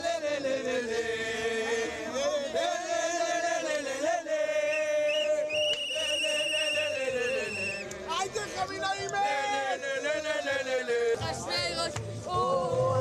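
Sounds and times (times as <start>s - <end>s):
group singing and chanting: 0.0s - 13.0s.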